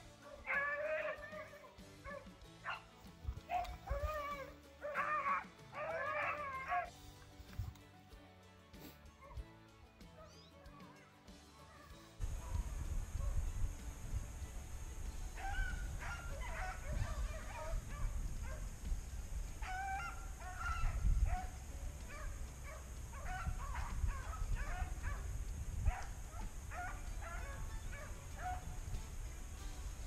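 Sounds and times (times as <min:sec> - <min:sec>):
hounds baying: 0:00.0 - 0:07.8, 0:08.8 - 0:09.5, 0:10.1 - 0:30.0.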